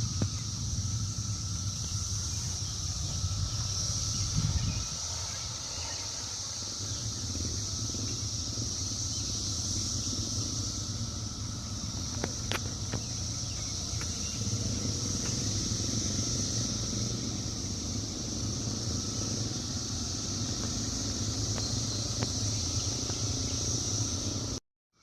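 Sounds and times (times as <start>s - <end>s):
cicadas droning in chorus: 0.0s - 25.0s.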